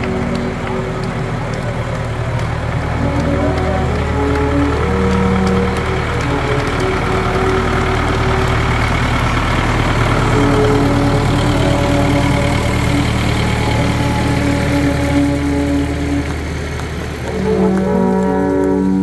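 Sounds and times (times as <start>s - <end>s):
long held musical notes: 0.0s - 19.0s
tractor engine droning: 0.0s - 19.0s.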